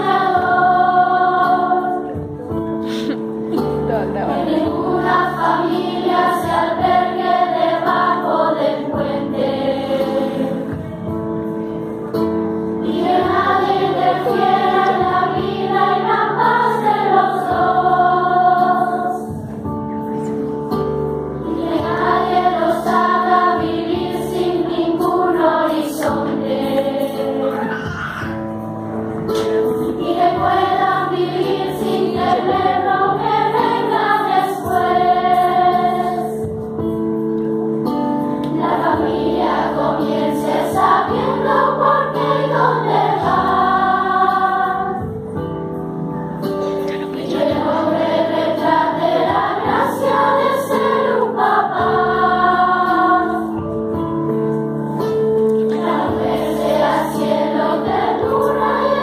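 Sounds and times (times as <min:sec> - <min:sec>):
children's choir singing: 0:00.0 - 0:37.0, 0:38.3 - 0:45.6, 0:46.5 - 0:59.0
keyboard chords: 0:00.0 - 0:59.0.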